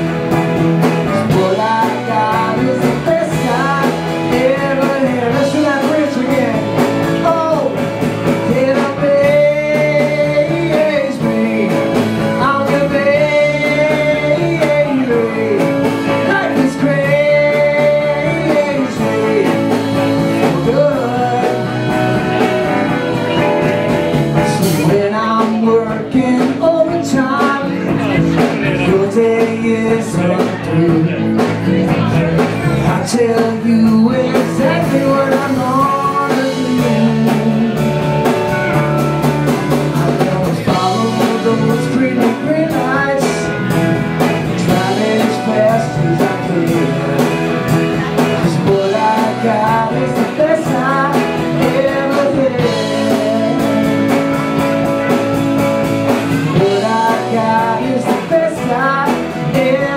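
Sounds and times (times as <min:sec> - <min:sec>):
drums: 0:00.0 - 0:59.9
electric guitars: 0:00.0 - 0:59.9.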